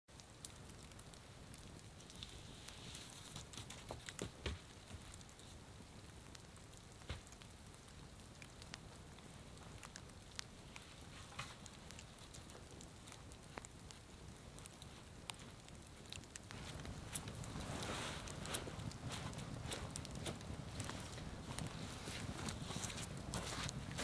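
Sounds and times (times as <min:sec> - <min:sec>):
campfire crackling and popping: 0:00.1 - 0:24.0.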